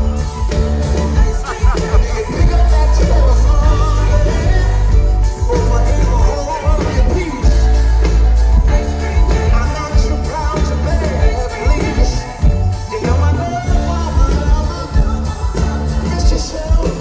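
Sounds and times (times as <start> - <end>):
heavy bass: 0.0 - 17.0
live rock band playing: 0.0 - 17.0
person singing: 0.0 - 17.0.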